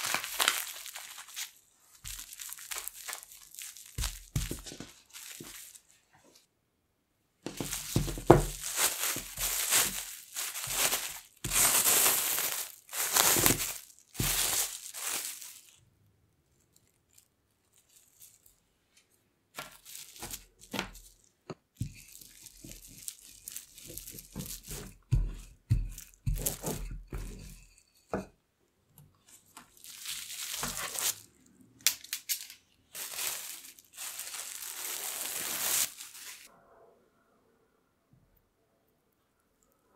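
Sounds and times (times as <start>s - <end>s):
plastic cling film crinkling: 0.0s - 6.5s, 7.5s - 15.8s, 16.5s - 27.5s, 29.3s - 36.5s.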